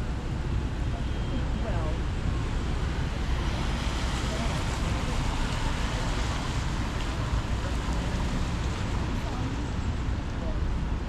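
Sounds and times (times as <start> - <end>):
rain: 0.0 - 11.0
traffic on a wet street: 0.0 - 11.0
faint voices of passers-by: 0.7 - 11.0.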